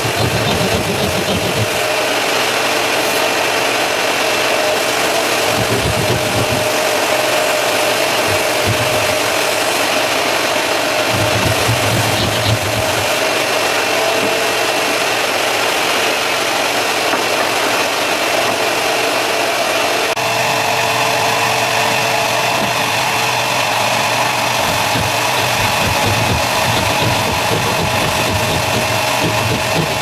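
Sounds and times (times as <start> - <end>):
shop vacuum running: 0.0 - 30.0.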